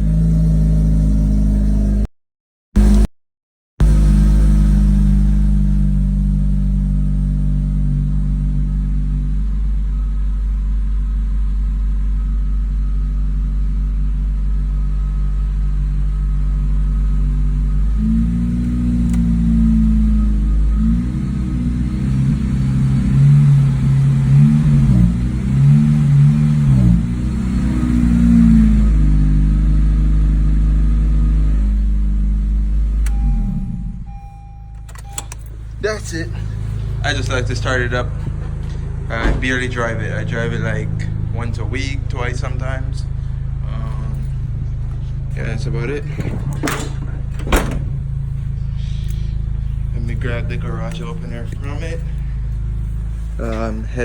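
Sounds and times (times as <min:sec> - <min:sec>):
car engine idling and revving: 0:00.0 - 0:02.1, 0:02.8 - 0:03.1, 0:03.8 - 0:54.0.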